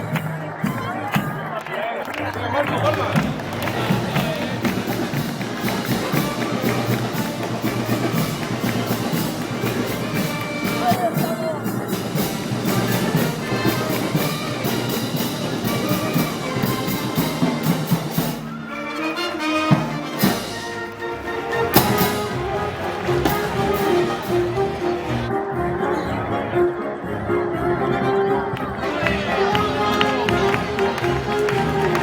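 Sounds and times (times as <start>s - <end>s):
percussion beat: 0.0s - 25.3s, 28.8s - 32.0s
brass band playing festival music: 0.0s - 32.0s
trumpets: 2.1s - 32.0s
trombones: 2.2s - 32.0s.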